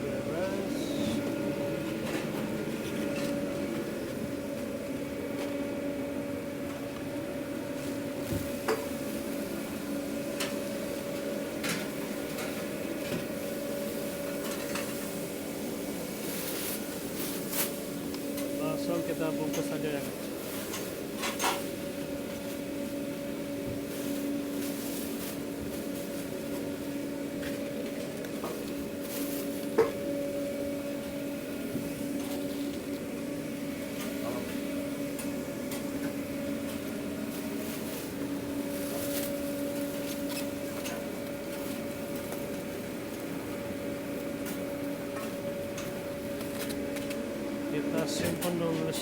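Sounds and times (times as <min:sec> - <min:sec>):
kitchen equipment hum: 0:00.0 - 0:49.0.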